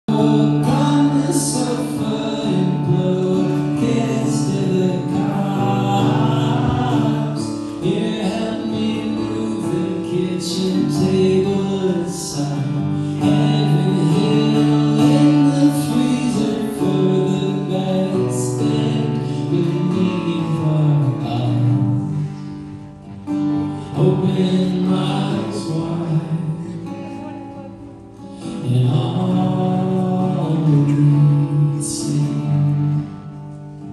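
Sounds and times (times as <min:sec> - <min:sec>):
acoustic guitar: 0:00.0 - 0:33.9
man singing: 0:00.0 - 0:33.9.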